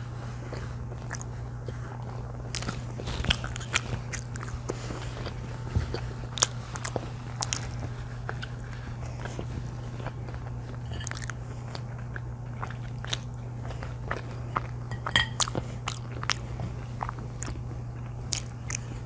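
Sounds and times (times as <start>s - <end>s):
chewing and biting food: 0.0s - 19.0s
low hum: 0.0s - 19.0s.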